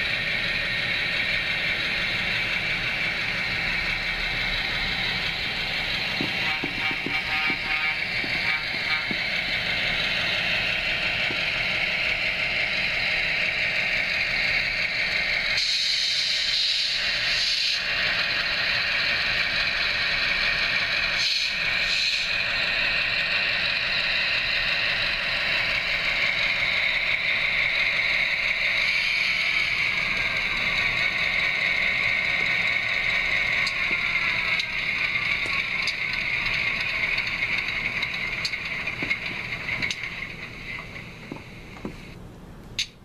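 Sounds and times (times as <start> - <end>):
model train motor and wheels whirring: 0.0 - 42.2
diesel engine sound from small speaker: 0.0 - 43.0.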